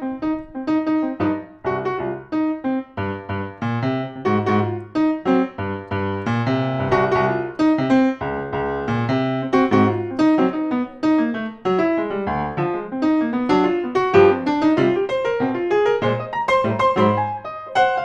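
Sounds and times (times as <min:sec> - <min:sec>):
jazz piano ballad: 0:00.0 - 0:18.0.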